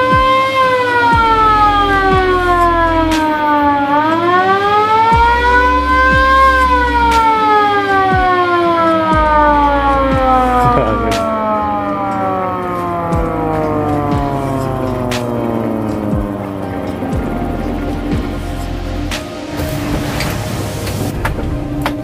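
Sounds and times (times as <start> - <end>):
ambulance siren wailing: 0.0 - 22.0.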